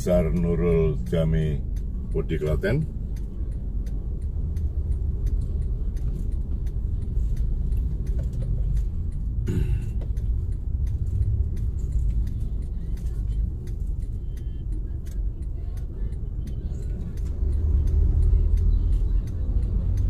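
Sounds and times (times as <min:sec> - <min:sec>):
road traffic: 0:00.0 - 0:20.0
vehicle engine rumble: 0:00.0 - 0:20.0.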